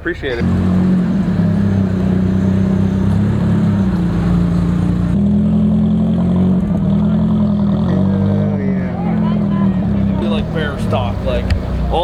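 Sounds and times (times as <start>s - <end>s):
car engine running: 0.2s - 12.0s.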